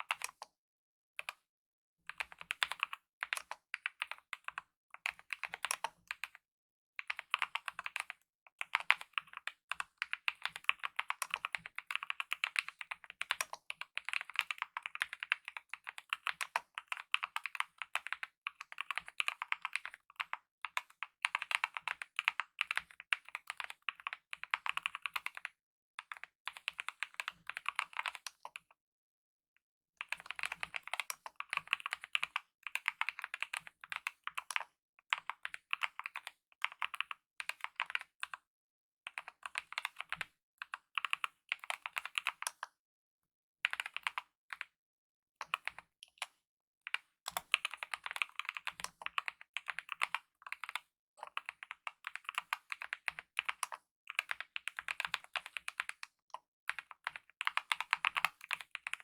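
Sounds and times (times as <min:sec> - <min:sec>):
fast typing on mechanical keyboard: 0:02.2 - 0:06.4, 0:07.0 - 0:25.5, 0:26.2 - 0:28.5, 0:30.0 - 0:38.4, 0:39.1 - 0:42.6, 0:43.7 - 0:44.7, 0:46.9 - 0:59.0.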